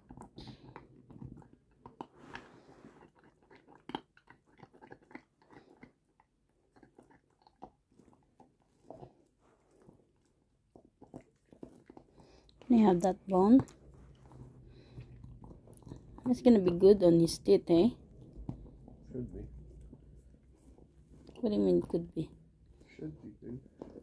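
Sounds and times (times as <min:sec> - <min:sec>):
dog gnawing on bone: 0:00.0 - 0:21.4, 0:22.5 - 0:24.0.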